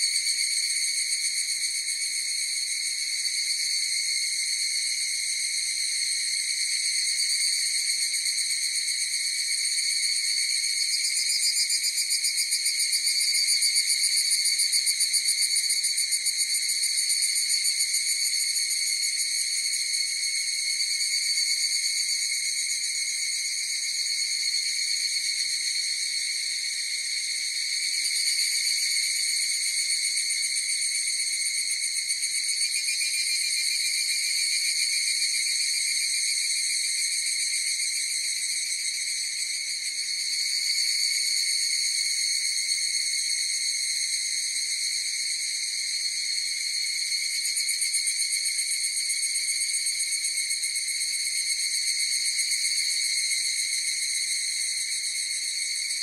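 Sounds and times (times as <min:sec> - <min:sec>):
cicadas trilling: 0:00.0 - 0:56.0.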